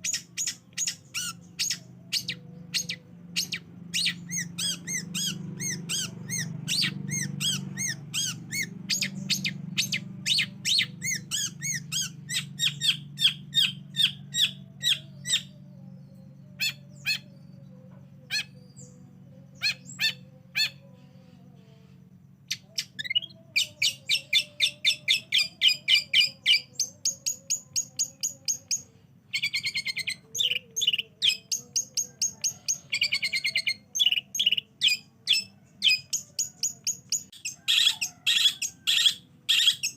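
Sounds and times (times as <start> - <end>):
shrike singing: 0.0 - 39.9
steady low hum: 0.0 - 39.9.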